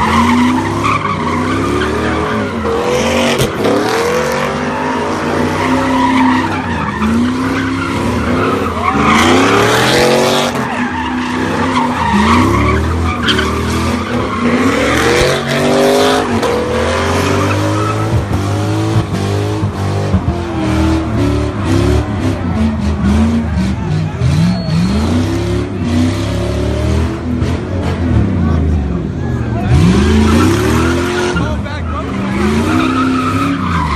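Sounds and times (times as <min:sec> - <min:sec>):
tyres squealing on pavement: 0:00.0 - 0:26.1, 0:28.6 - 0:33.9
car engine revving: 0:00.0 - 0:33.9.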